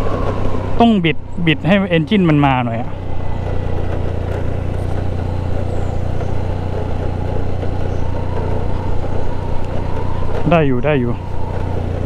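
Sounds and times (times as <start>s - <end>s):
road noise: 0.0s - 12.0s
scooter engine running: 0.0s - 12.0s.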